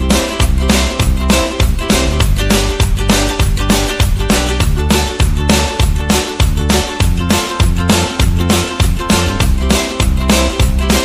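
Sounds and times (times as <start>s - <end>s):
background music with quick beat: 0.0s - 11.0s.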